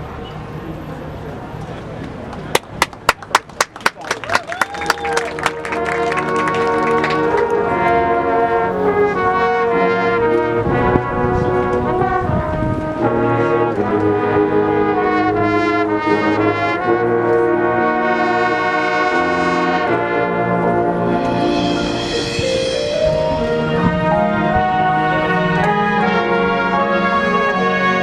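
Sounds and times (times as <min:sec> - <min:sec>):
brass band playing held chords: 0:05.0 - 0:28.0.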